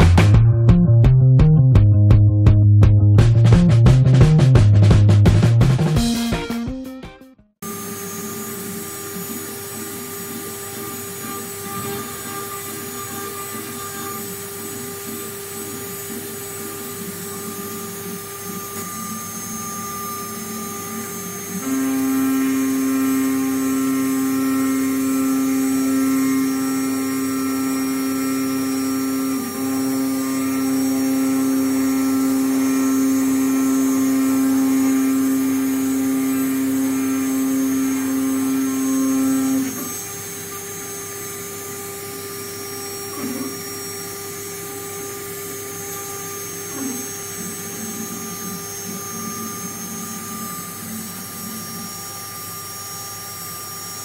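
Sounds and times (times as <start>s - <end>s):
spindle motor high hum: 7.6s - 54.0s
steady machine noise: 7.6s - 54.0s.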